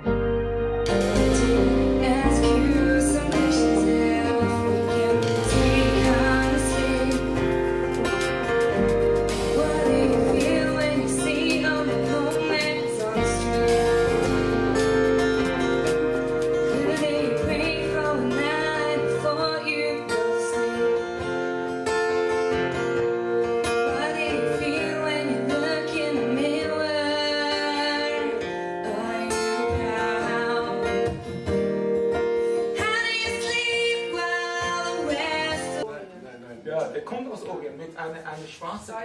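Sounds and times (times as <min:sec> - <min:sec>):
guitar: 0:00.0 - 0:35.9
woman singing into microphone: 0:00.9 - 0:22.9, 0:23.6 - 0:31.6, 0:32.5 - 0:35.8.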